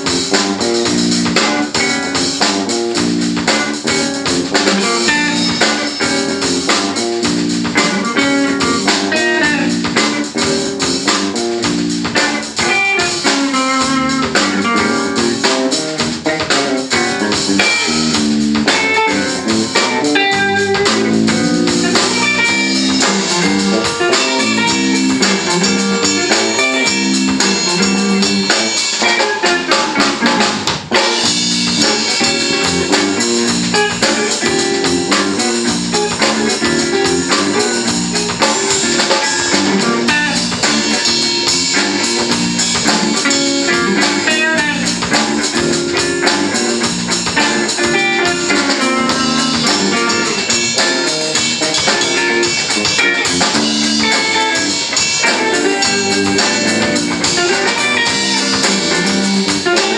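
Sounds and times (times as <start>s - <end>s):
drum kit: 0.0s - 59.9s
electric bass line: 0.0s - 59.9s
electric guitars: 0.0s - 59.9s.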